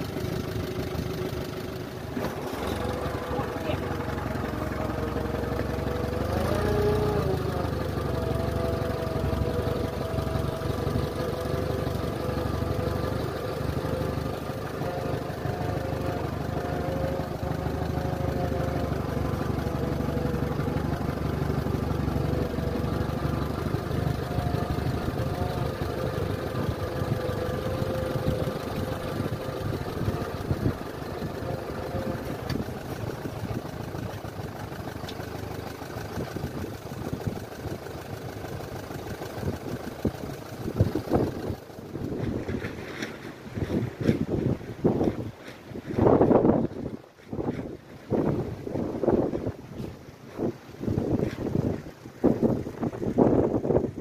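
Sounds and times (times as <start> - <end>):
trailer rattling and knocking: 0.0 - 47.9
tractor engine running: 0.0 - 54.0.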